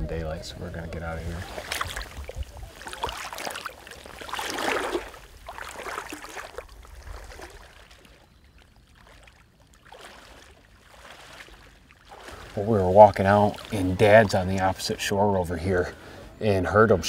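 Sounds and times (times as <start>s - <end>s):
water sloshing around wading legs: 0.9s - 15.0s.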